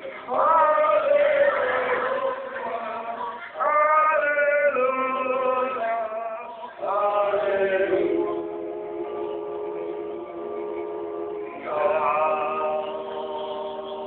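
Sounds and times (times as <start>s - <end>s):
men singing a hymn: 0.0s - 14.0s.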